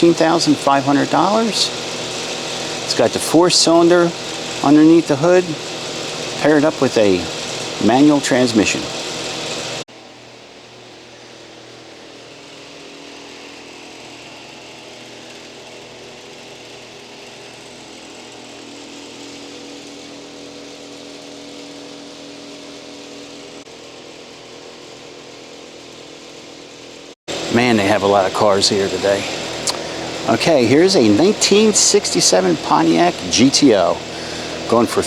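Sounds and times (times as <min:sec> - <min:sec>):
machine humming: 0:00.0 - 0:35.0.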